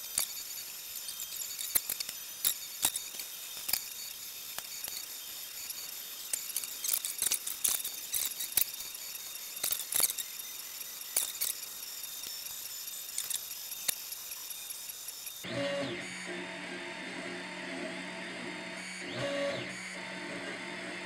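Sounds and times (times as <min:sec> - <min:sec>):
stepper motors whining: 0:00.0 - 0:21.0.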